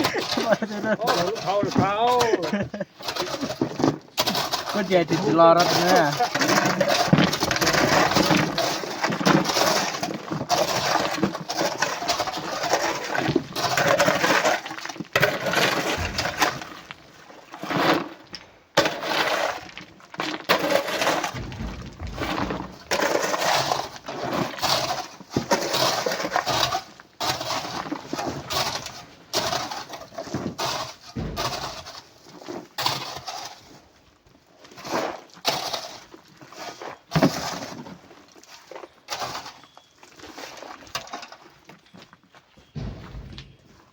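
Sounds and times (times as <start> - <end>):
rocks clattering into a truck: 0.0 - 33.8, 42.5 - 43.9.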